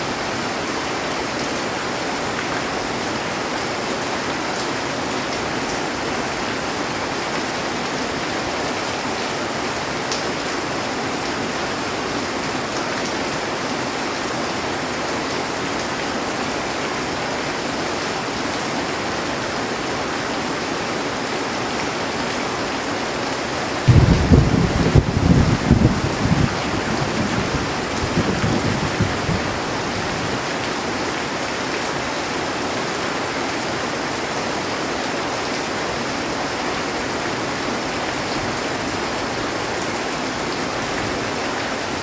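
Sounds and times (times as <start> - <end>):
heavy rain on a metal roof: 0.0 - 42.0.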